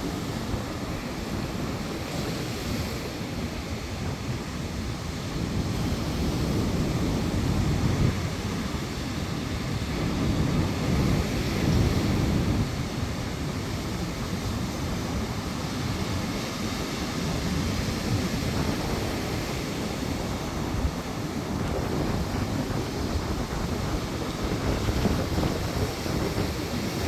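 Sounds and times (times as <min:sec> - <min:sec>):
sea surf washing ashore: 0:00.0 - 0:27.0
wind buffeting microphone: 0:00.0 - 0:27.0.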